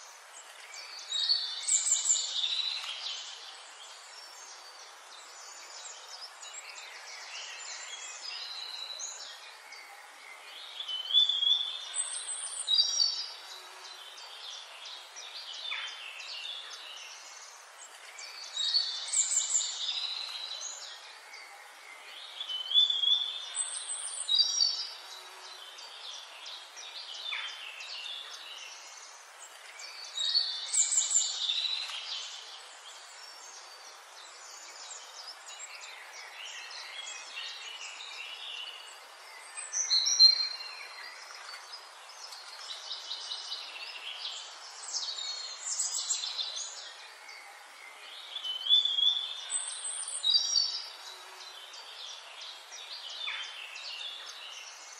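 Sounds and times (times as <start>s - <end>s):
steady forest hiss: 0.0s - 54.9s
songbird singing whistled notes: 0.4s - 54.9s.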